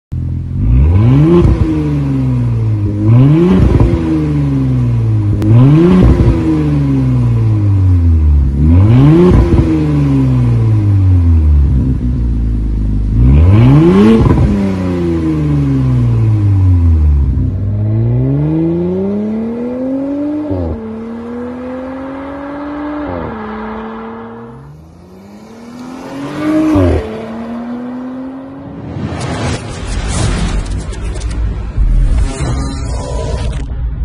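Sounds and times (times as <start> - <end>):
car engine revving: 0.2 - 33.7.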